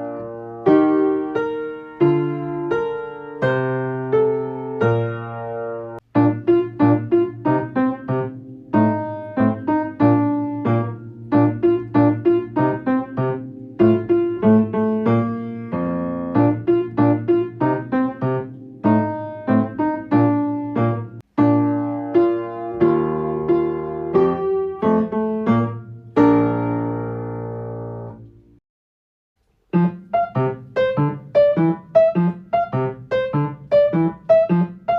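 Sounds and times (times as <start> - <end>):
piano playing notes and chords: 0.0 - 28.6, 29.5 - 34.9.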